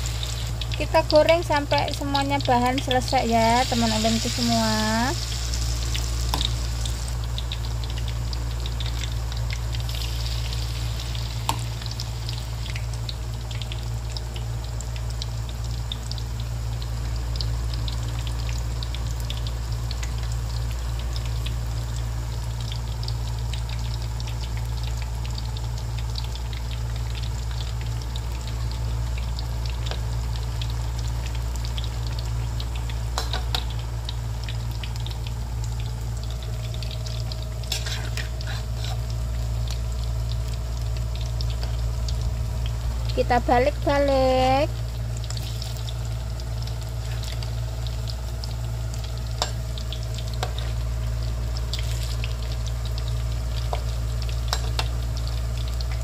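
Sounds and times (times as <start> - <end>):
constant low hum: 0.0 - 56.0
deep-frying sizzle with pops: 0.0 - 56.0.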